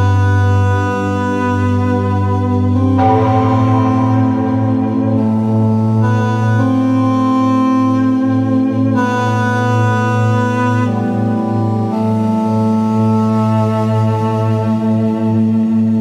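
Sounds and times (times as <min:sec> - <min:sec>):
instrumental music with held chords: 0:00.0 - 0:16.0.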